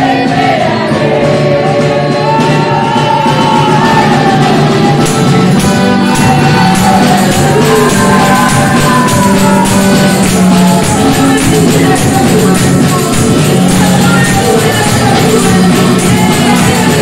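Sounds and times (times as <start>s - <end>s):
acoustic guitar: 0.0s - 17.0s
group of voices singing: 0.0s - 17.0s
hand clapping on the beat: 1.7s - 17.0s.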